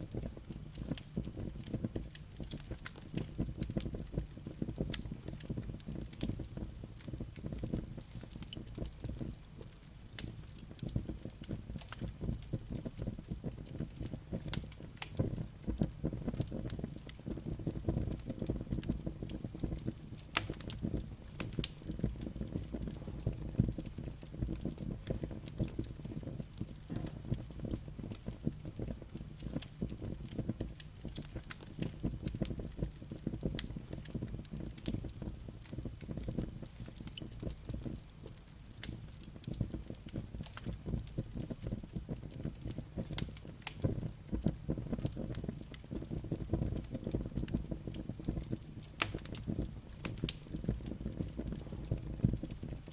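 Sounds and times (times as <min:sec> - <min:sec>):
low rumble of flames: 0:00.0 - 0:52.9
crackling and popping logs: 0:00.1 - 0:52.9.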